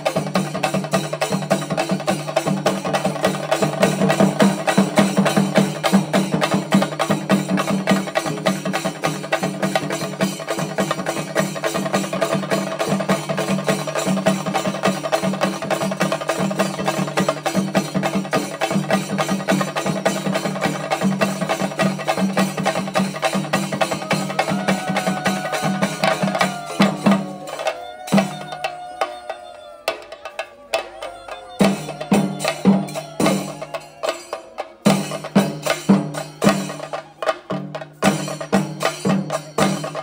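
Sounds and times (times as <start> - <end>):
fast drum strokes: 0.0 - 29.3, 29.9 - 40.0.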